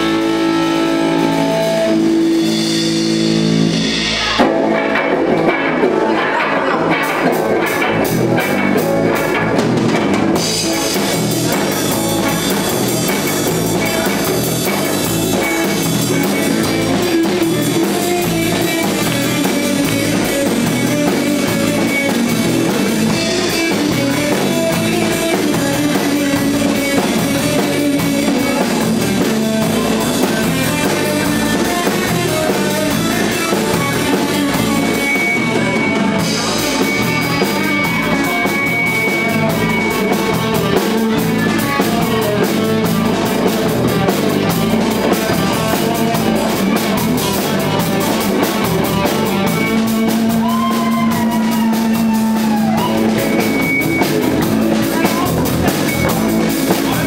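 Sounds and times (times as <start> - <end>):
drum kit steady beat: 0.0 - 57.0
electric guitar: 0.0 - 57.0
live rock band playing: 0.0 - 57.0.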